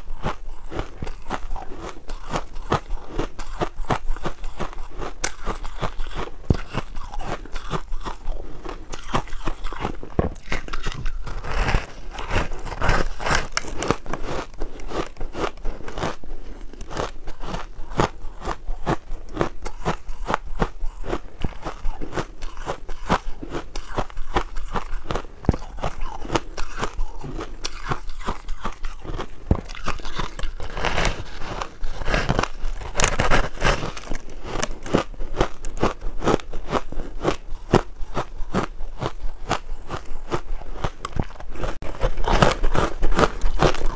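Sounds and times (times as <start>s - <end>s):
crunching frozen cake: 0.0s - 43.9s.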